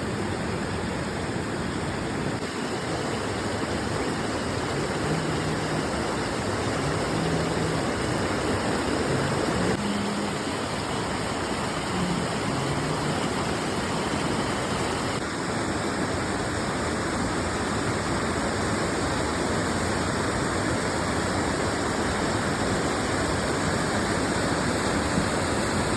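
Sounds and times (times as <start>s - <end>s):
river water rushing: 0.0s - 25.9s.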